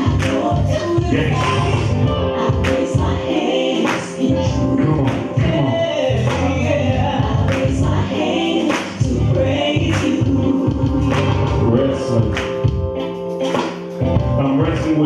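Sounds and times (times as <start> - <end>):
gospel song with choir: 0.0 - 15.0.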